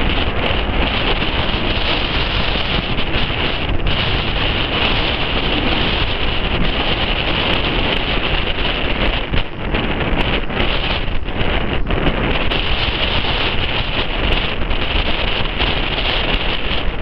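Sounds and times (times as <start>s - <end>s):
distant jet roar: 0.0s - 17.0s
wind buffeting microphone: 0.0s - 17.0s.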